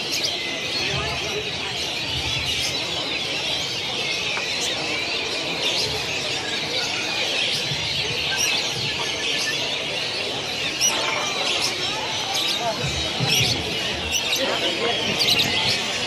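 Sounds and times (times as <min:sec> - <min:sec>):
lovebirds chattering and trilling: 0:00.0 - 0:16.0.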